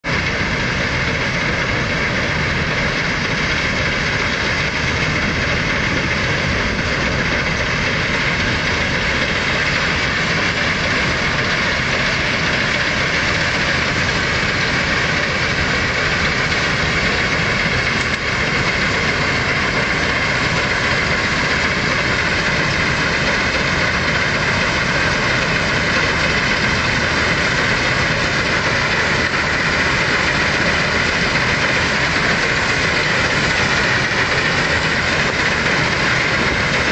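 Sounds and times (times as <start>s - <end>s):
combine harvesters running: 0.0s - 36.9s.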